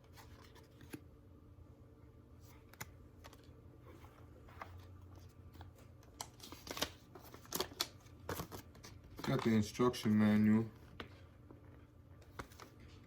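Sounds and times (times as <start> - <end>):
paper cards and packaging handled: 0.0 - 1.1, 2.4 - 13.0
low steady hum: 0.0 - 13.0.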